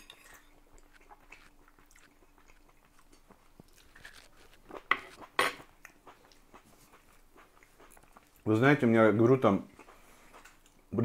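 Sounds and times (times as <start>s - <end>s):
person chewing: 0.2s - 8.5s, 9.6s - 10.9s.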